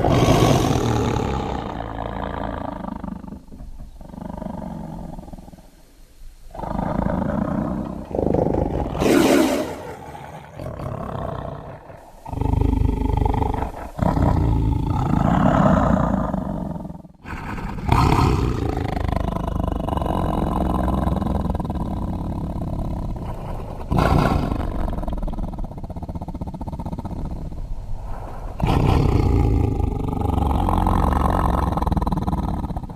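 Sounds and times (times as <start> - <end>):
deep dinosaur roars and growls: 0.0 - 5.7, 6.5 - 32.9.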